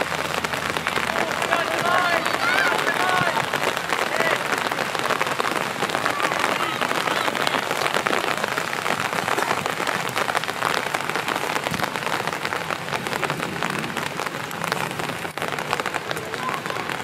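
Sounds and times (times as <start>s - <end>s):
steady rain patter: 0.0s - 17.0s.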